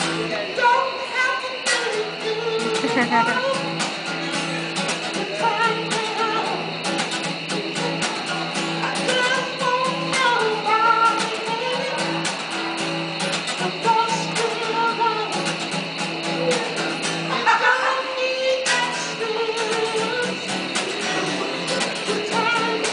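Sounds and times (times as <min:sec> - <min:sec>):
person singing: 0:00.0 - 0:06.7, 0:07.4 - 0:12.4, 0:13.5 - 0:22.9
strummed guitar chords: 0:00.0 - 0:22.9.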